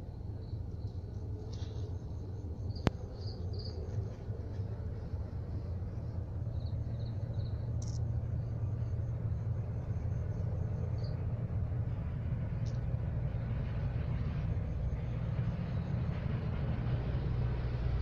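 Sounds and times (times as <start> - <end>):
insects chirping: 0.0 - 18.0
low rumble: 0.0 - 18.0.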